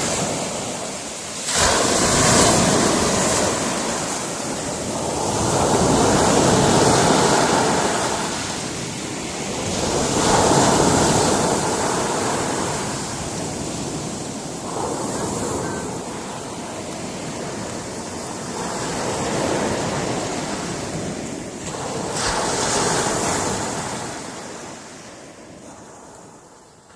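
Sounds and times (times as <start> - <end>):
sea waves washing against rocks: 0.0 - 26.3.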